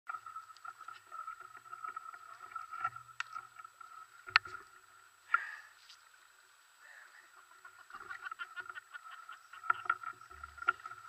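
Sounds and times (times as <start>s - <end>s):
shallow river running: 0.1s - 11.0s.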